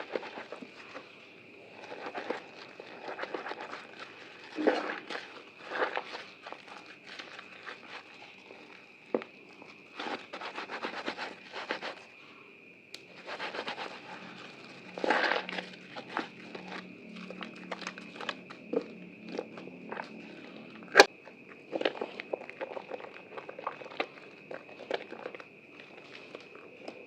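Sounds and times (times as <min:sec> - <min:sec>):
wet soap squishing in lather: 0:00.0 - 0:12.2, 0:13.0 - 0:27.0.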